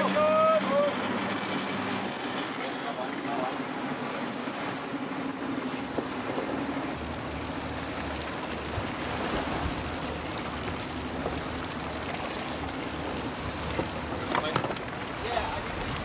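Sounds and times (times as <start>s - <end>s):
boat engine running: 0.0s - 16.0s
water rushing: 0.0s - 16.0s
wind: 0.0s - 16.0s.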